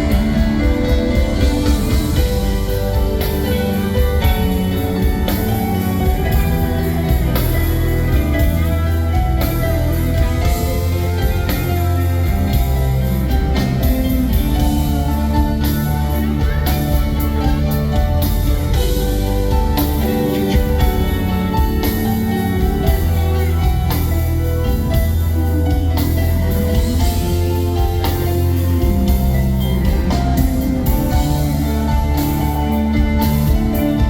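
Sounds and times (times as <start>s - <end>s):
electric guitars: 0.0s - 34.0s
rock band playing live: 0.0s - 34.0s.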